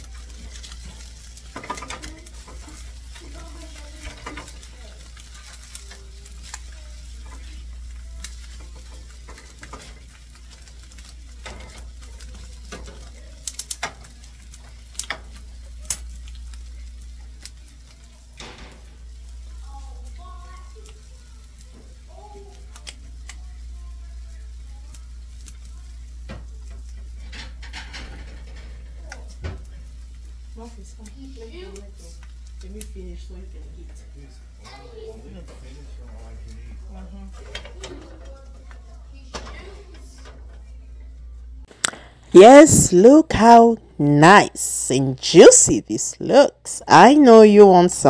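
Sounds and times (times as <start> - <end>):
eggs sizzling on griddle: 0.0 - 45.8.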